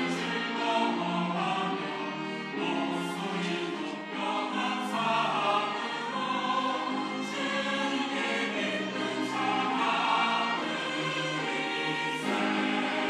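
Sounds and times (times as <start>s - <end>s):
mixed choir singing: 0.0s - 13.0s.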